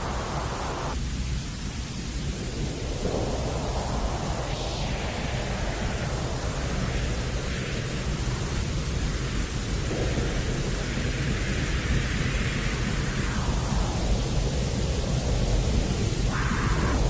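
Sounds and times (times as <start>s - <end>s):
white noise rushing hiss: 0.0s - 17.0s.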